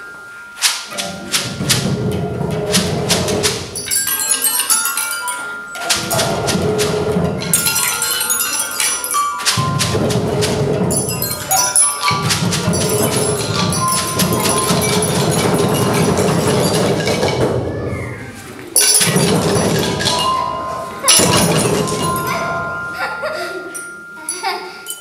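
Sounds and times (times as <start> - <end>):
xylophones and metallophones playing: 0.0 - 17.8, 18.8 - 25.0
knocking: 0.9 - 5.0, 5.8 - 17.9, 18.9 - 23.3.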